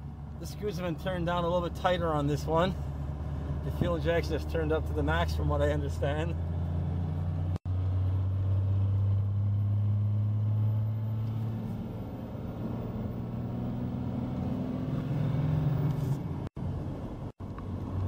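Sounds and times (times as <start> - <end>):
diesel engine drone in cab: 0.0 - 18.0.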